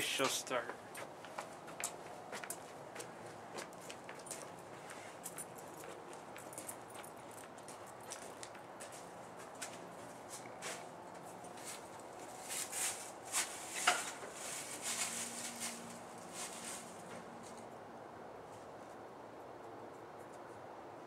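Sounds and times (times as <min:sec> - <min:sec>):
light footsteps: 0:00.0 - 0:17.7.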